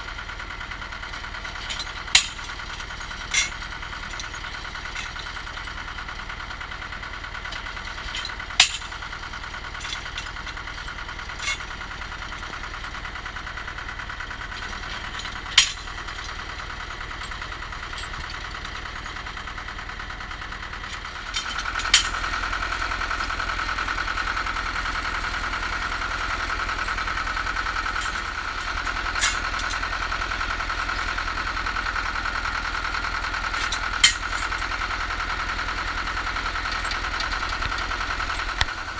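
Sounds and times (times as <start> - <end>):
drilling rig engine running: 0.0 - 38.9.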